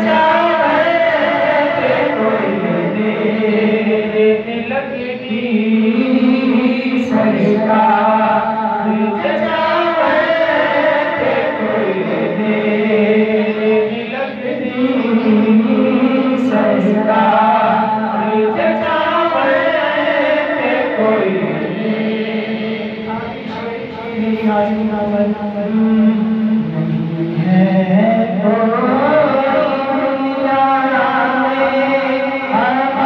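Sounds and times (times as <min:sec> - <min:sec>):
man singing devotional song: 0:00.0 - 0:33.0.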